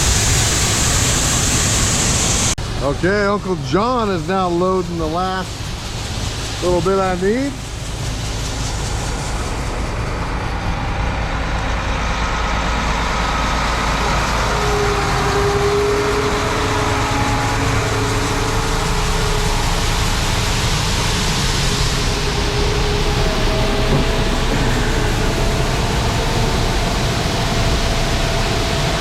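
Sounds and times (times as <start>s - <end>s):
heavy engine running: 0.0s - 29.0s
faint whine: 2.6s - 29.0s.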